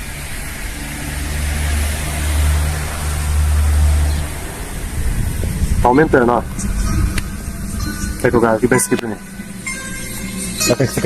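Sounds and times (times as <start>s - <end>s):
bass music on car stereo: 0.0s - 11.0s.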